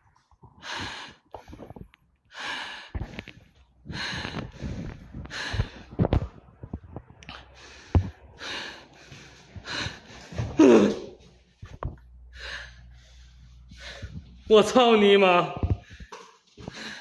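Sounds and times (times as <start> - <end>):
man breathing hard: 0.6 - 11.2, 12.3 - 14.5, 15.8 - 17.0.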